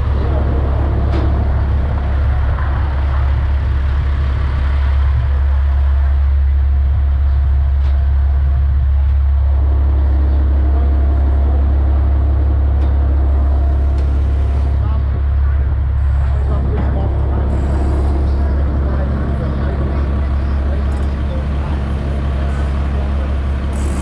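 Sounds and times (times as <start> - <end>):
large engine droning: 0.0 - 24.0.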